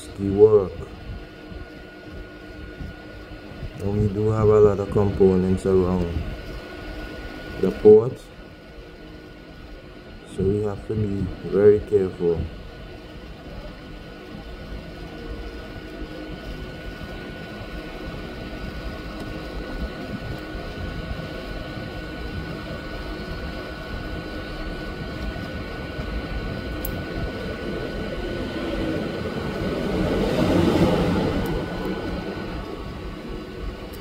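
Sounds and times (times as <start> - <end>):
faint steady whine: 0.0 - 34.0.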